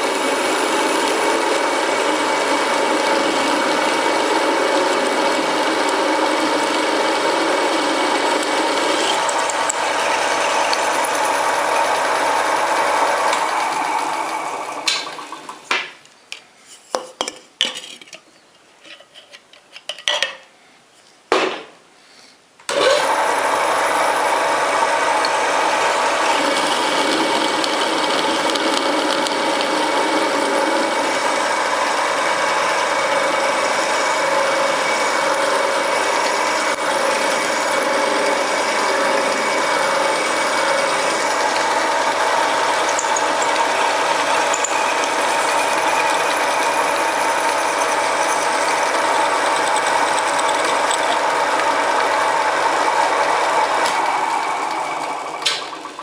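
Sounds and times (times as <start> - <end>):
lathe motor running: 0.0 - 15.6, 22.7 - 56.0.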